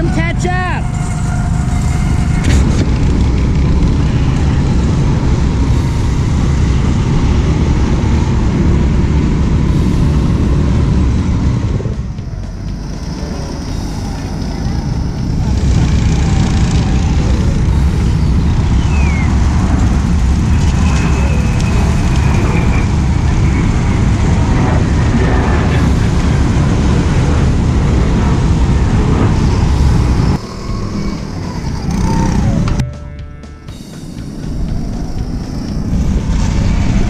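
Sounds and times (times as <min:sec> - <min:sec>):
vehicle rumble on road: 0:00.0 - 0:37.0.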